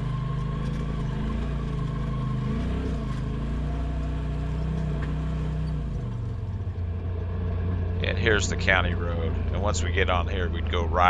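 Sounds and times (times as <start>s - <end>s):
off-road vehicle engine driving: 0.0s - 11.0s.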